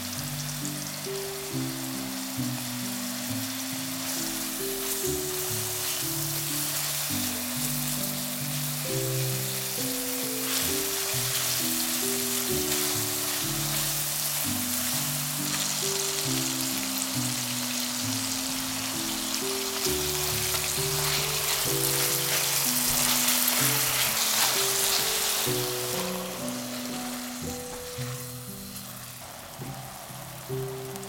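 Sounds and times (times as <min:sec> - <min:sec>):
background music low notes: 0:00.0 - 0:31.0
food sizzling in pan: 0:00.0 - 0:31.0.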